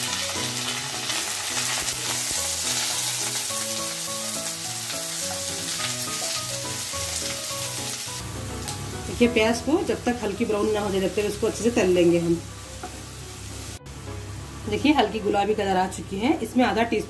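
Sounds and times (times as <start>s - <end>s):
background music with melody: 0.0s - 17.0s
onions sizzling in hot oil: 0.0s - 17.0s.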